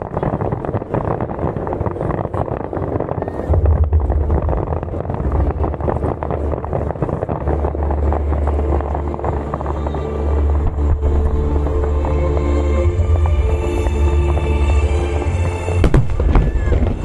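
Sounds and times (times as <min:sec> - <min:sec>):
crowd voices: 0:00.0 - 0:17.0
fireworks bursting and crackling: 0:00.0 - 0:17.0
heavy low rumble: 0:00.0 - 0:17.0
wind buffeting microphone: 0:00.0 - 0:17.0.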